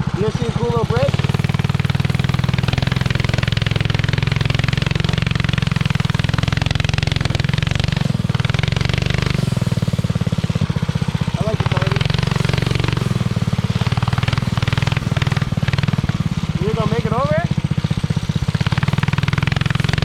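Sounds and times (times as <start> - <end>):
small engine running under throttle: 0.0 - 20.0.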